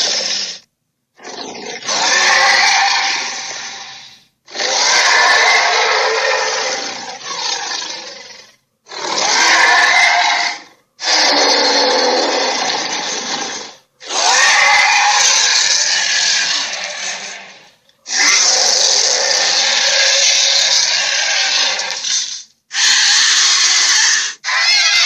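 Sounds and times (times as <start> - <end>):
giant ape roaring: 0.0 - 0.6, 1.2 - 25.0.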